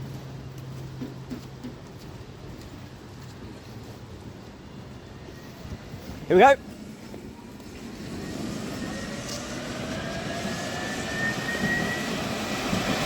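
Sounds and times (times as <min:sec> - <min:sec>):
tram motor whine: 0:02.2 - 0:13.0.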